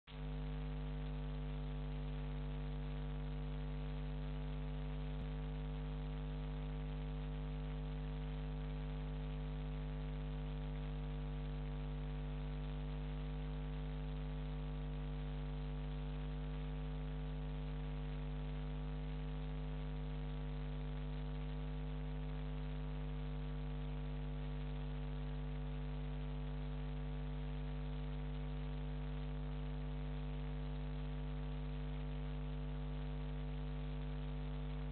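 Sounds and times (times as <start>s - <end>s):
static hiss: 0.1s - 34.9s.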